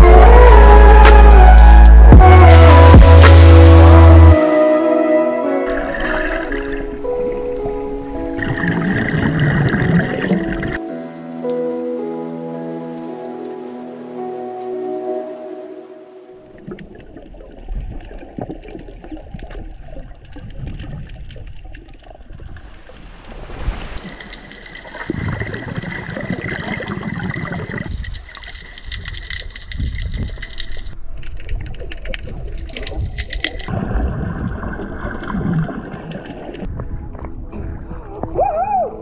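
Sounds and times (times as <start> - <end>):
underwater water rushing and bubbling: 0.0 - 10.8, 16.2 - 37.9.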